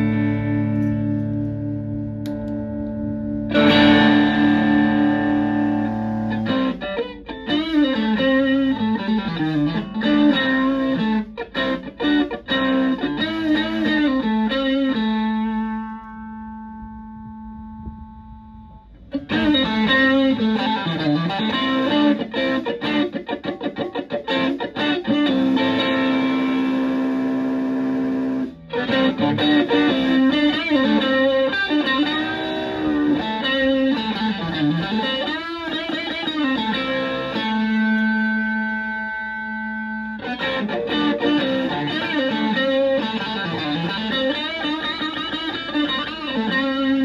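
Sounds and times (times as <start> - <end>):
overdriven electric guitar: 0.0 - 47.0.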